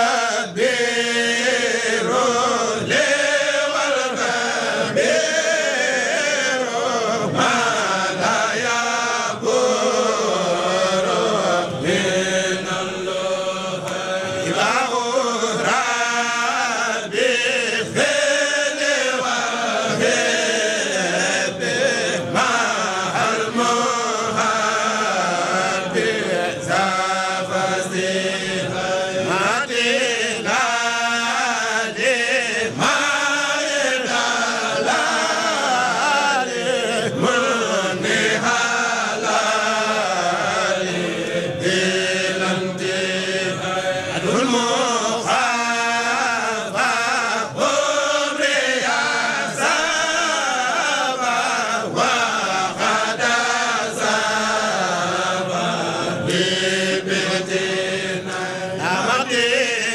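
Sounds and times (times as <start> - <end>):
voices chanting religious verse: 0.0 - 59.9.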